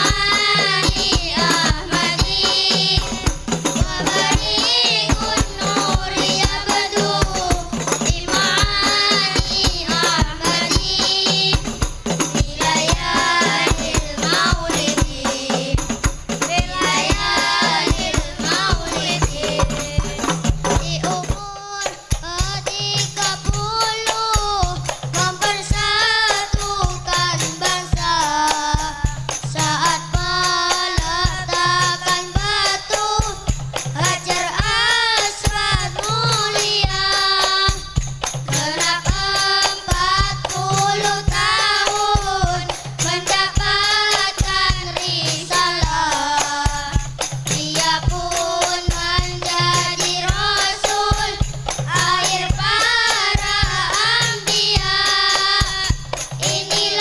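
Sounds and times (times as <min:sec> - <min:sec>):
hand percussion strokes: 0:00.0 - 0:57.0.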